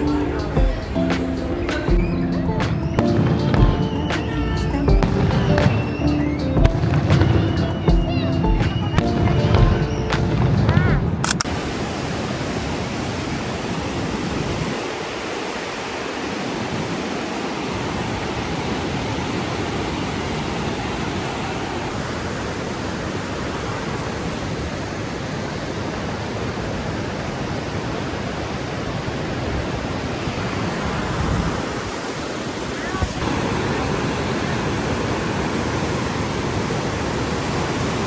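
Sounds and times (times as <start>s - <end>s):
white water rushing: 0.0s - 38.0s.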